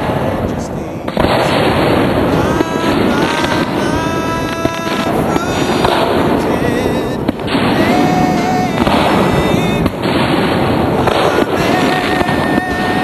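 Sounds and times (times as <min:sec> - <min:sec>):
fireworks bursting: 0:00.0 - 0:13.0
sharp firework booms: 0:00.0 - 0:13.0.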